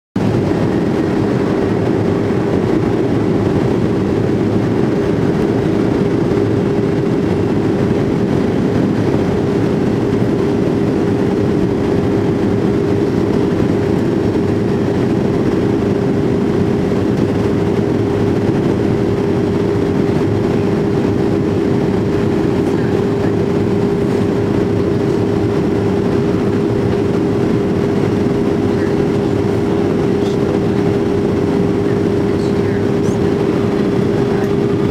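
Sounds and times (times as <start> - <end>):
constant cabin hum: 0.2 - 34.9
jet engines and airflow rushing: 0.2 - 34.9.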